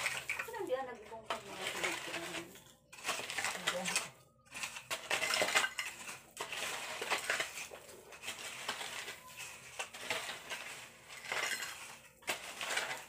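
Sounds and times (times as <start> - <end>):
shovel clinking on stones: 1.3 - 13.0
shovel scraping into soil: 1.7 - 13.0.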